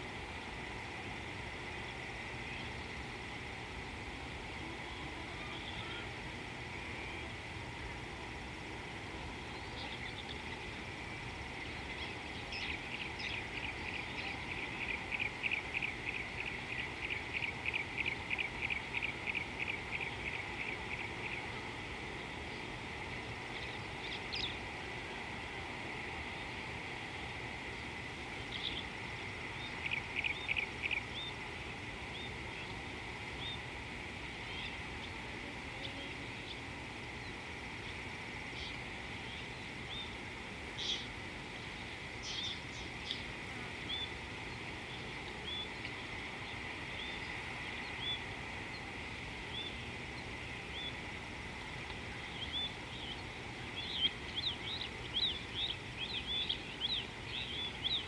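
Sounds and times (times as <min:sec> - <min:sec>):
steady background hiss: 0:00.0 - 0:58.0
birds chirping: 0:09.2 - 0:58.0.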